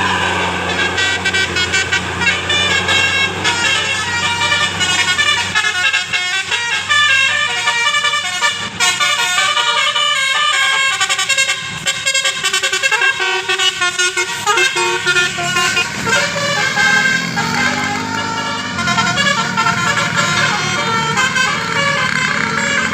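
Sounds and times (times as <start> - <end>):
bus engine running: 0.0 - 22.9
bus horn playing melody: 0.0 - 22.9.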